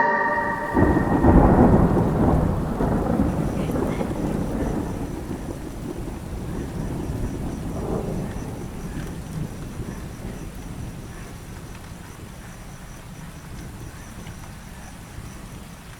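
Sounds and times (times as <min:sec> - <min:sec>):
thunder rumbling: 0:00.0 - 0:15.9
steady rain: 0:00.3 - 0:15.9.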